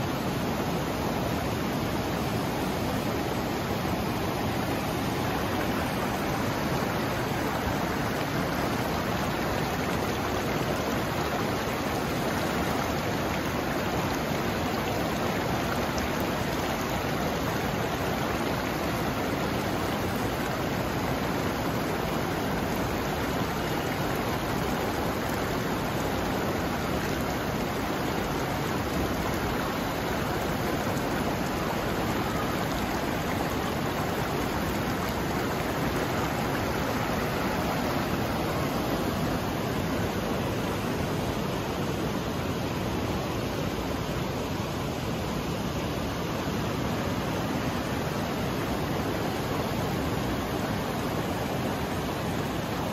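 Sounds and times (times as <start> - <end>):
river rushing over boulders: 0.0 - 52.9.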